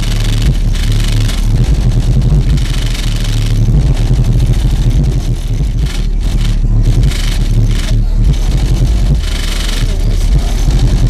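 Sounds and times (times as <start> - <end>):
car subwoofer bass pounding: 0.0 - 11.0.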